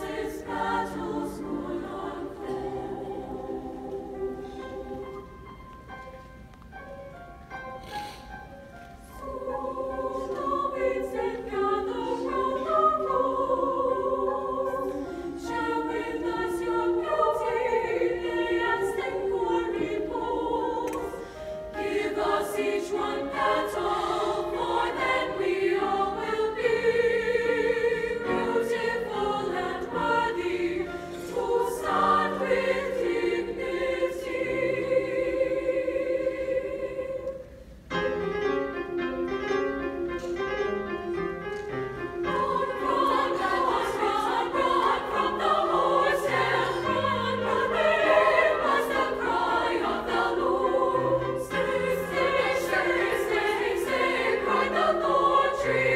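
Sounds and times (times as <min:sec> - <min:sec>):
women's choir singing: 0:00.0 - 0:05.6, 0:09.0 - 0:37.7, 0:42.2 - 0:55.9
piano accompaniment: 0:00.0 - 0:36.4, 0:37.8 - 0:55.9.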